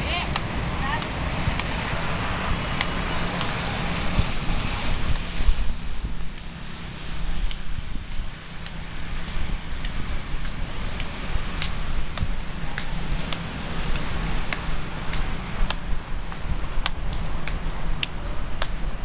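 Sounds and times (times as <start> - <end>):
wind rumble on microphone: 0.0 - 19.0
footsteps on paving: 0.2 - 19.0.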